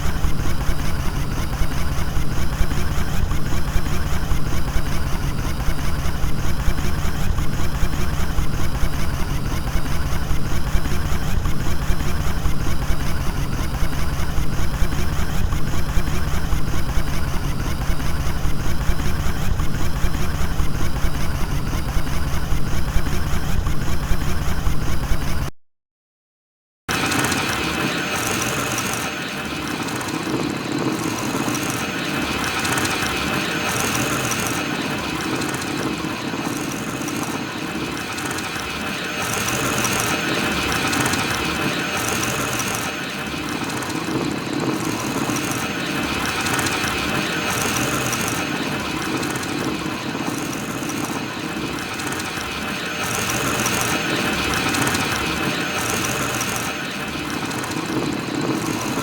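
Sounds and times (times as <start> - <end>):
droid mechanical rolling noise: 0.0 - 25.5, 26.9 - 59.0.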